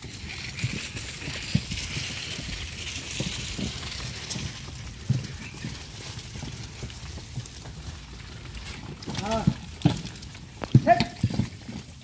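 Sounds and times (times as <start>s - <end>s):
hooves and feet on grass: 0.0s - 12.0s.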